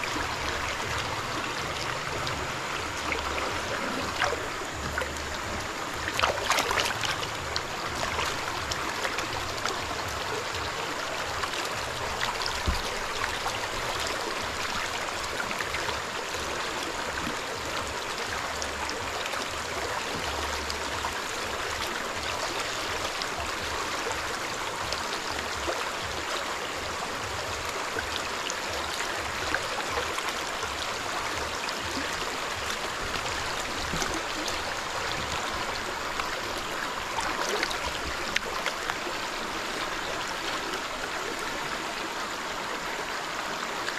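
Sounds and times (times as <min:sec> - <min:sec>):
stream water running: 0:00.0 - 0:43.9.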